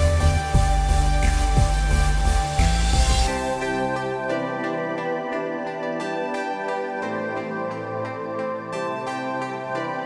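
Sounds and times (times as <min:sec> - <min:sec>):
background music with strong bass: 0:00.0 - 0:10.0.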